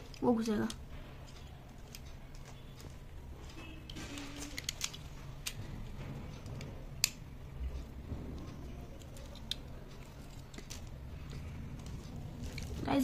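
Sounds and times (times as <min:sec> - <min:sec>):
plastic parts clicking together: 0:00.0 - 0:12.8.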